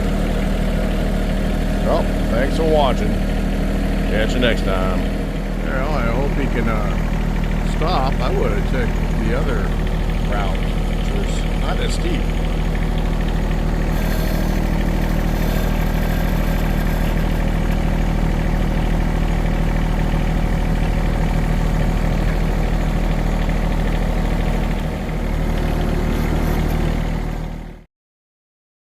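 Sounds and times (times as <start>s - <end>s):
vehicle engine idling: 0.0s - 27.9s.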